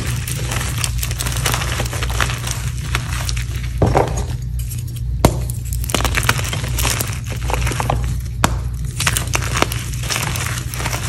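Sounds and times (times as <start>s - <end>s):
chalk chunks snapping: 0.0s - 11.0s.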